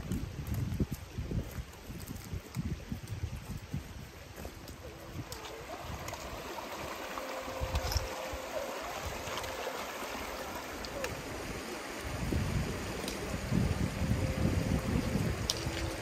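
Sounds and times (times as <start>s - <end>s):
running water rushing: 0.0s - 16.0s
wind buffeting microphone: 0.0s - 16.0s.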